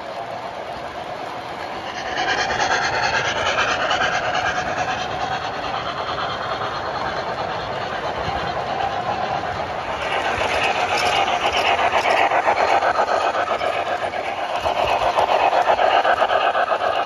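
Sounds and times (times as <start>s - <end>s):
model train wheels clattering: 0.0s - 17.0s.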